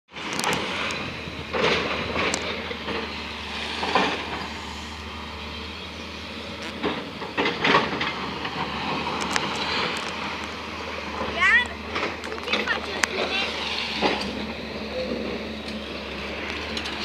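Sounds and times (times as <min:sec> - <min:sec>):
excavator engine hum: 0:00.1 - 0:17.0
metal clanking and scraping: 0:00.2 - 0:04.6, 0:06.7 - 0:17.0.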